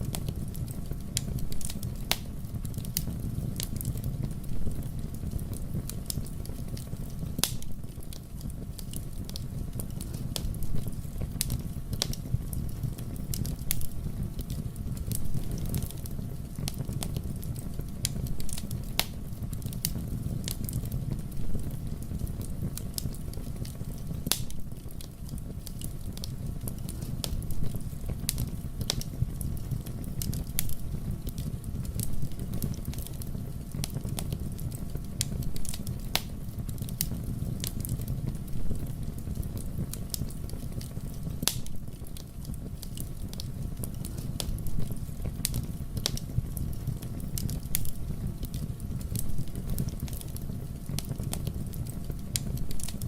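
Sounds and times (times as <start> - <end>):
low rumble of flames: 0.0 - 53.0
sharp pops from fire: 0.0 - 53.0
wood fire crackling: 0.0 - 53.0.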